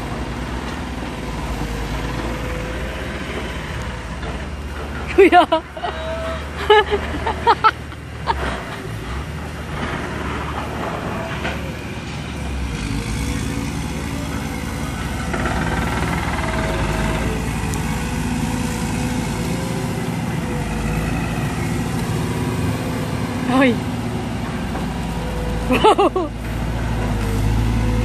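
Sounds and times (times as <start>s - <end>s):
excavator diesel engine rumble: 0.0s - 28.0s.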